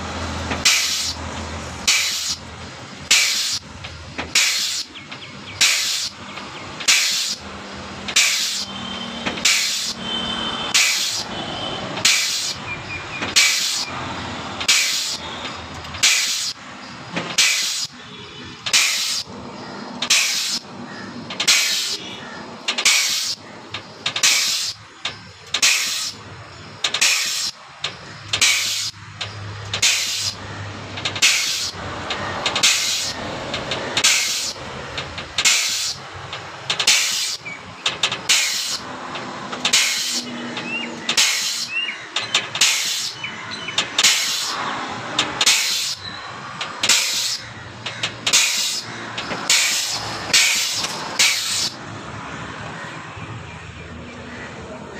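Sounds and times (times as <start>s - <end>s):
air pump exhaust hissing: 0.0s - 51.8s.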